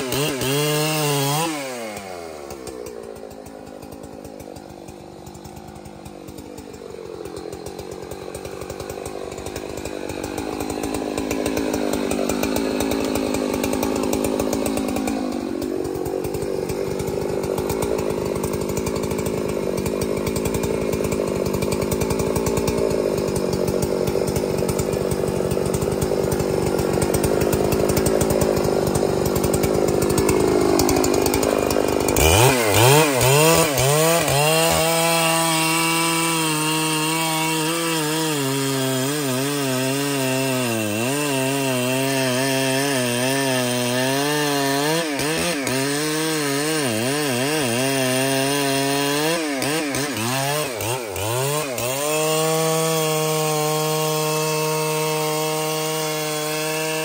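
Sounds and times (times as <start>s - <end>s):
chainsaw cutting wood: 0.0s - 57.0s
chainsaw revving high: 0.0s - 57.0s.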